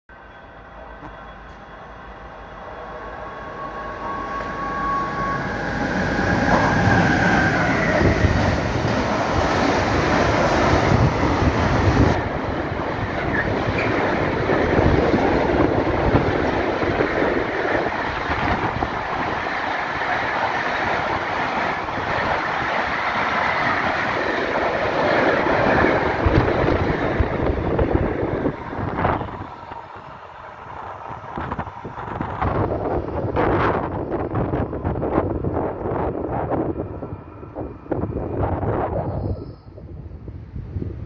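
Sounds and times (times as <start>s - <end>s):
freight train wheels on rails: 0.1s - 41.0s.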